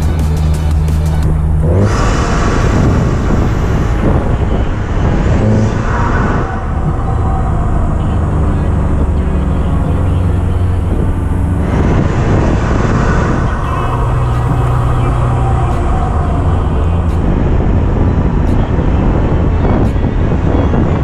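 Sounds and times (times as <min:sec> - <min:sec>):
car engine drone: 0:00.0 - 0:21.0
road and wind rush: 0:00.0 - 0:21.0.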